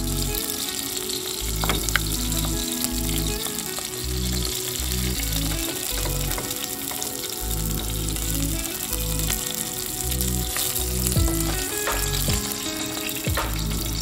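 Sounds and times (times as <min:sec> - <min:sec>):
background music with bass line: 0:00.0 - 0:00.6, 0:01.3 - 0:14.0
fish sizzling in hot oil: 0:00.0 - 0:14.0.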